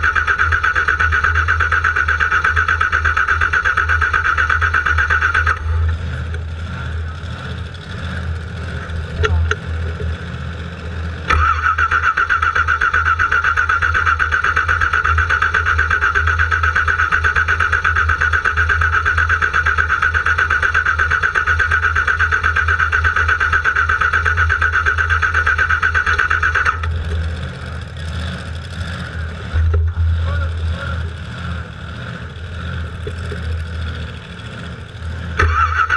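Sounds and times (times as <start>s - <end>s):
starter motor cranking engine: 0.0s - 35.9s.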